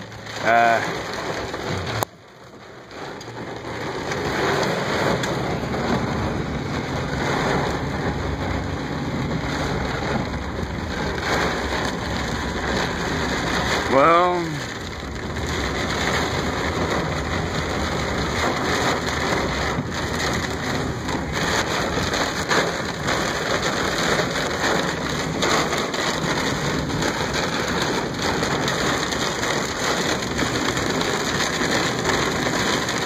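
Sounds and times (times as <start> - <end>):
heavy rain on car roof: 0.0 - 33.0.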